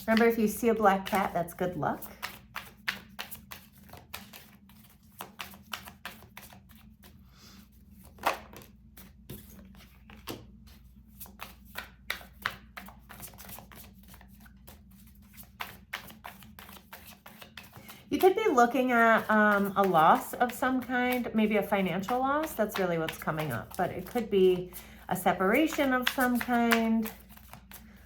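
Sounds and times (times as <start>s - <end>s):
cards being shuffled: 0.0s - 28.0s.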